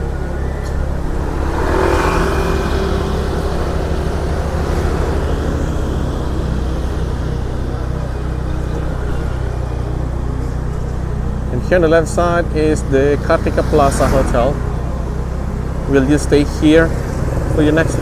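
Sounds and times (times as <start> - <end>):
motorbike engine running: 0.0 - 18.0
passing vehicles: 0.0 - 18.0.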